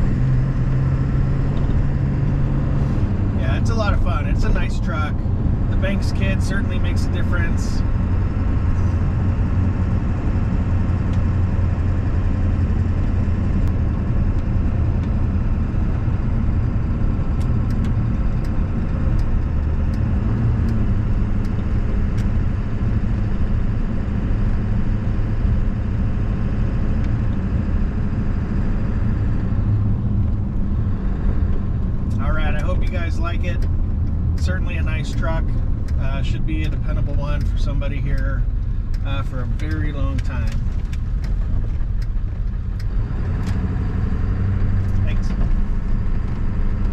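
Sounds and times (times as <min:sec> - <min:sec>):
diesel engine hum: 0:00.0 - 0:46.9
road noise: 0:00.0 - 0:46.9.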